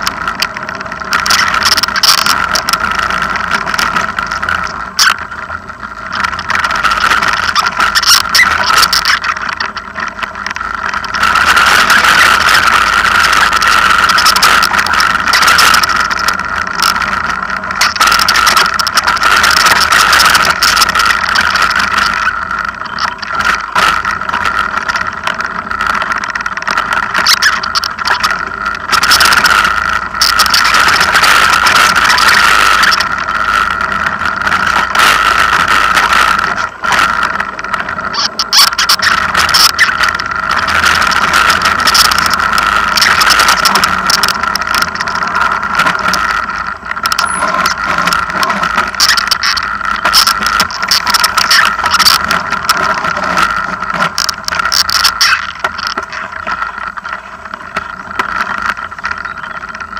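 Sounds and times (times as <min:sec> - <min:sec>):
high whine: 0:00.0 - 0:59.9.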